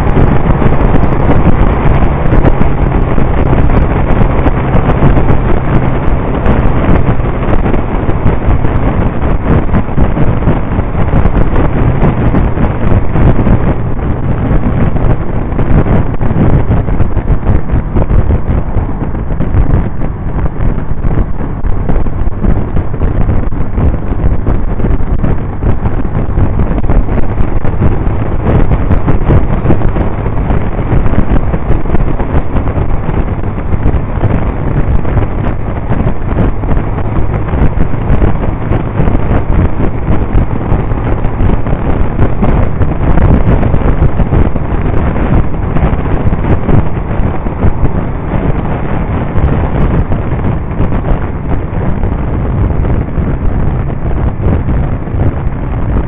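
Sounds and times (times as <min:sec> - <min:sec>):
motorcycle engine drone: 0:00.0 - 0:56.0
wind buffeting microphone: 0:00.0 - 0:56.0.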